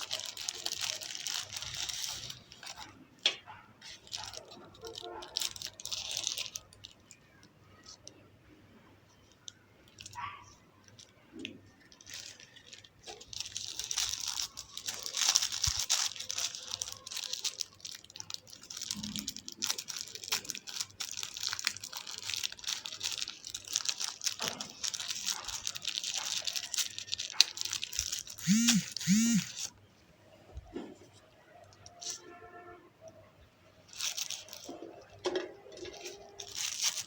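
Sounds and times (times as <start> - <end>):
packaging crinkling: 0.0 - 8.2, 9.1 - 29.7, 33.9 - 37.0.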